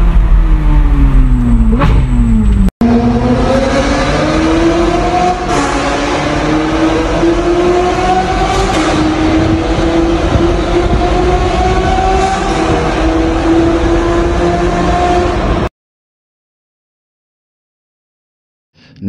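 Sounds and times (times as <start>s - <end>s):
car engine accelerating: 0.0s - 15.7s.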